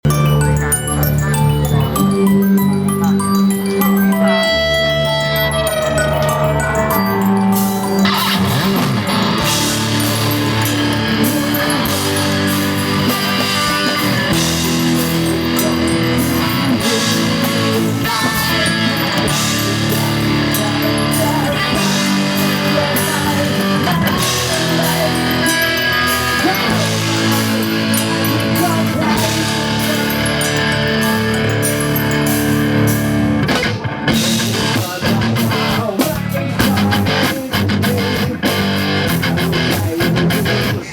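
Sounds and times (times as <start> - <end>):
electric guitar: 1.2 - 40.9
bass and drums: 5.1 - 40.9.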